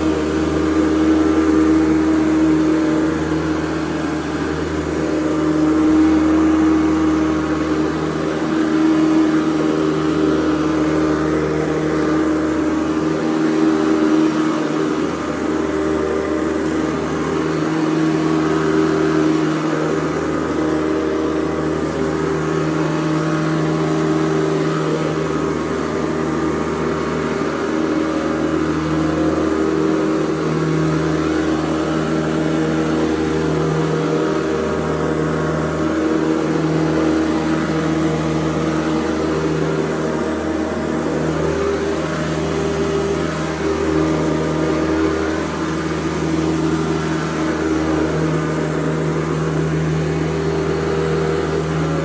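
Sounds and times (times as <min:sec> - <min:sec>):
upright vacuum cleaner running: 0:00.0 - 0:52.0.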